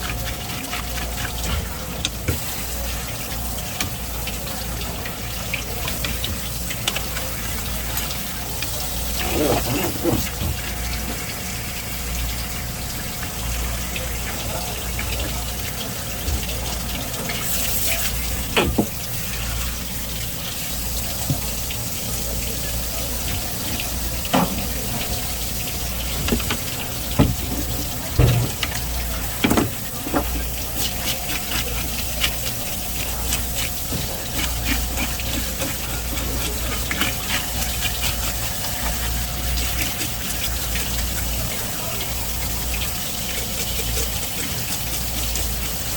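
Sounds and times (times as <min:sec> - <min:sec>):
water running: 0:00.0 - 0:45.9.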